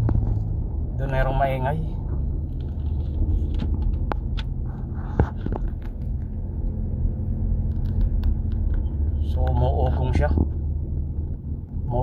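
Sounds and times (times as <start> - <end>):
road and drive noise: 0.0 - 12.0.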